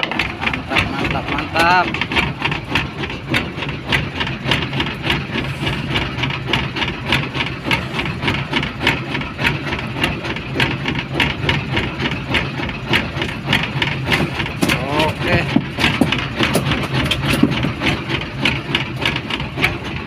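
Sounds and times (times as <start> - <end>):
engine running with knock: 0.0 - 20.0.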